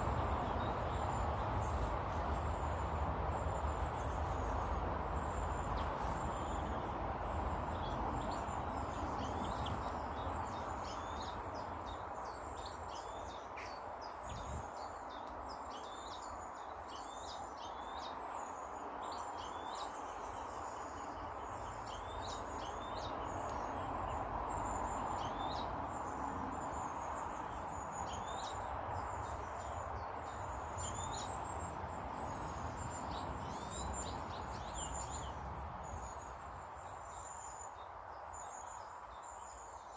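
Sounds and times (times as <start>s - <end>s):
small birds chirping: 0.0s - 39.9s
steady background noise: 0.0s - 39.9s.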